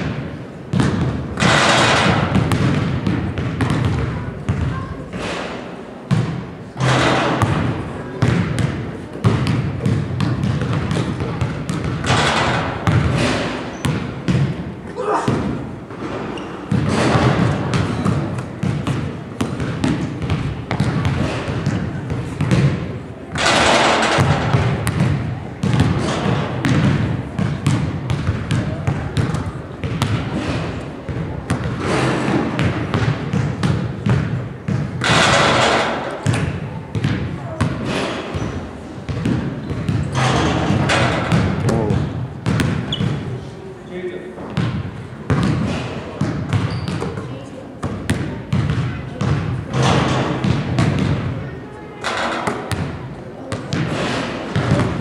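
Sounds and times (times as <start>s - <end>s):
basketballs bouncing on gym floor: 0.0s - 43.6s, 44.4s - 55.0s
background chatter: 4.0s - 16.7s, 17.3s - 35.0s, 35.7s - 55.0s.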